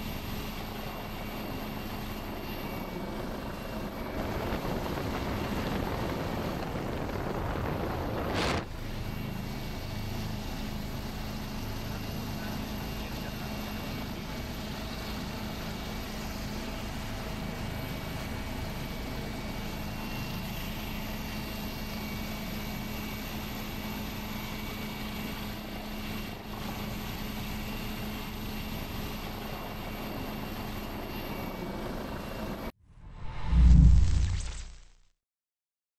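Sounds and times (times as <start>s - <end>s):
helicopter rotor and engine drone: 0.0s - 32.8s.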